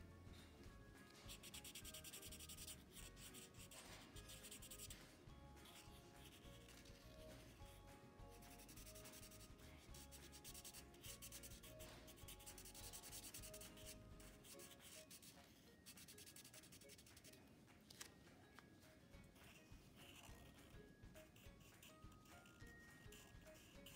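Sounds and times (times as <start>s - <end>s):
soft background music: 0.0s - 23.9s
marker scratching on paper: 1.1s - 17.4s, 19.4s - 23.9s.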